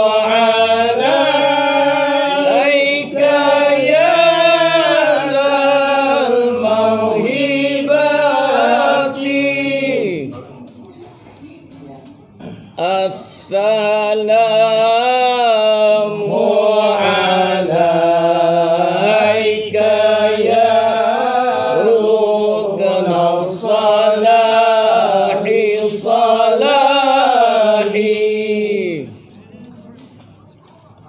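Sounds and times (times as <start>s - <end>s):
men chanting: 0.0s - 10.4s, 12.8s - 29.4s.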